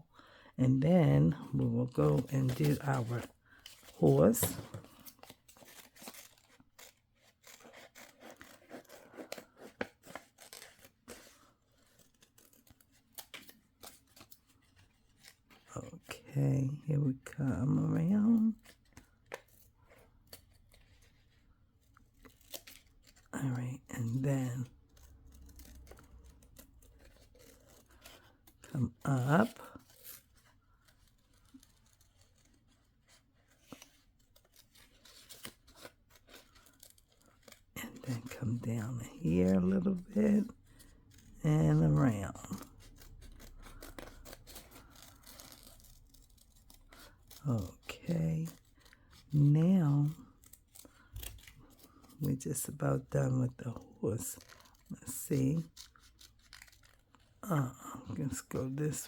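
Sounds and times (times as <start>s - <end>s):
scissors snipping paper: 1.0s - 59.0s.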